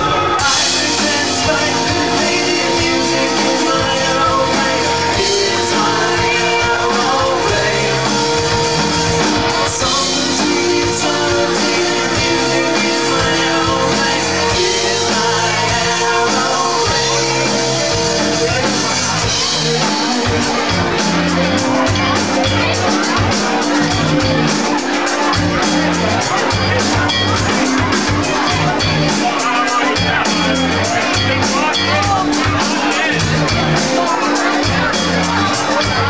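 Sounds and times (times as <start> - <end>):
live rock band playing: 0.0 - 36.0
singer's lead vocal: 0.0 - 36.0.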